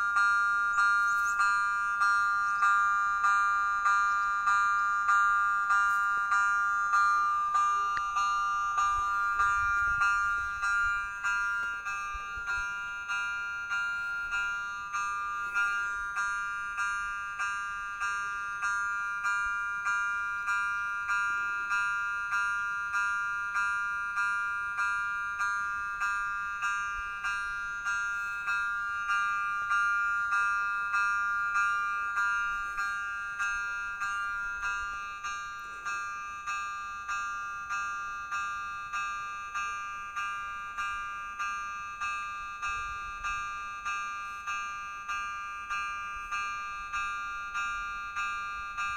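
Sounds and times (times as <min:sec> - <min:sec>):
electronic crossing bell chiming: 0:00.0 - 0:48.9.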